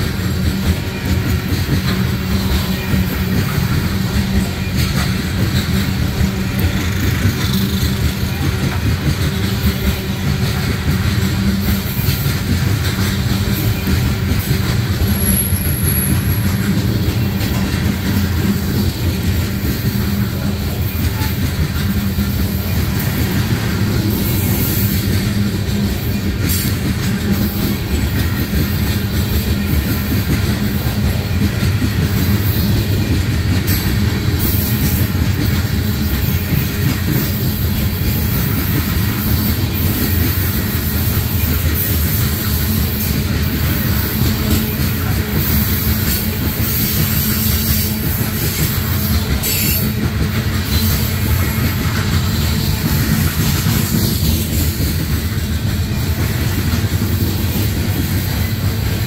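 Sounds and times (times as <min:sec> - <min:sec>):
steel wheels running on rails: 0:00.0 - 0:59.0.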